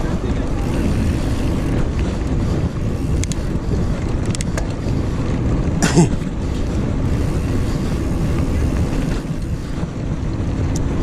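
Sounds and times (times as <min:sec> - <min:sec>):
bike rolling over dirt: 0:00.0 - 0:11.0
wind buffeting microphone: 0:00.0 - 0:11.0.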